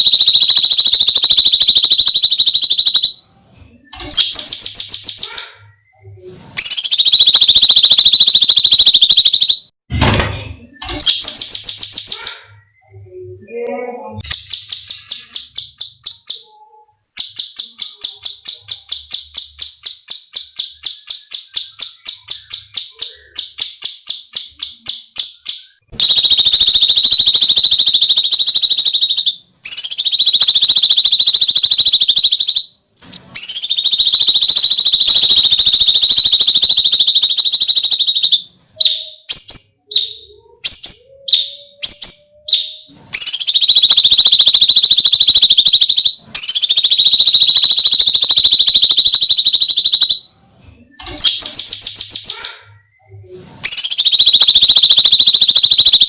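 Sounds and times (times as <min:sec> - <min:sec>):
songbird rattling repeated notes: 0:00.0 - 0:05.8, 0:06.6 - 0:12.8, 0:14.2 - 0:56.0.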